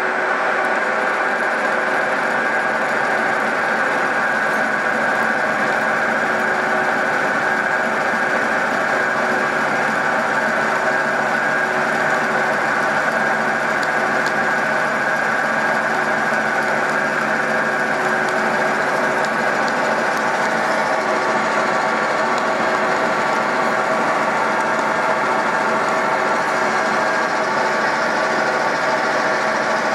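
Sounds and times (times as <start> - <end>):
milling machine whine: 0.0 - 29.9
end mill grinding steel: 1.7 - 29.9.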